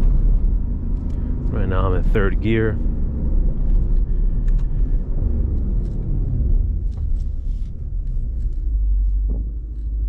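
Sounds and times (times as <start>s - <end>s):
car engine and exhaust rumbling: 0.0s - 10.0s.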